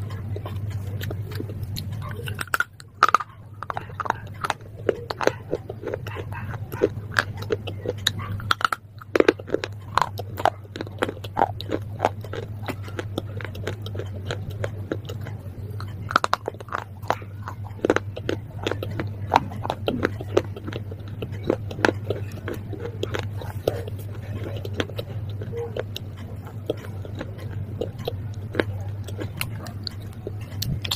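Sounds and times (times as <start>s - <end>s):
crunchy chewing: 0.0s - 30.9s
steady low hum: 0.0s - 30.9s.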